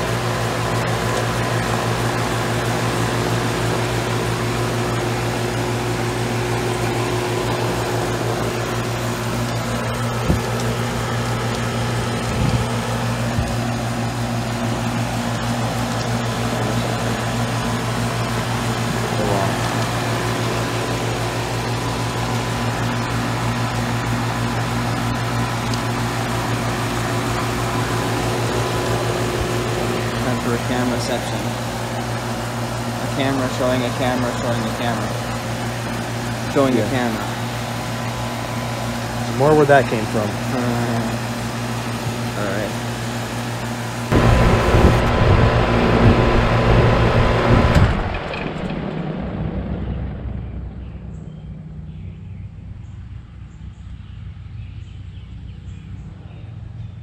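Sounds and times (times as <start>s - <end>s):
air conditioner compressor hum: 0.0s - 57.0s
condenser fan whir: 0.0s - 57.0s.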